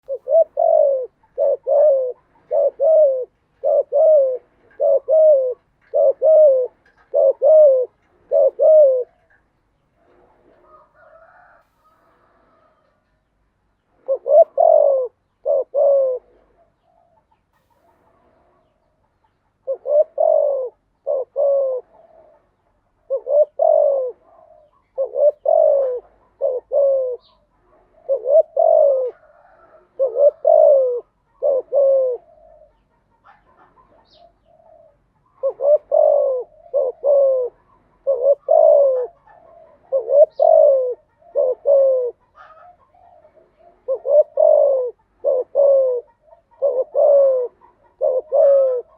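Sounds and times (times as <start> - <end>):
dove cooing: 0.0 - 13.0, 14.0 - 48.9.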